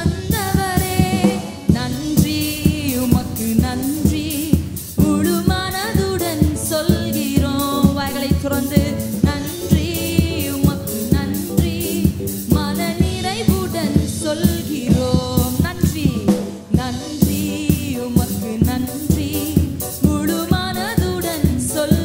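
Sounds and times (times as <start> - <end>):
band playing steady beat: 0.0 - 22.0.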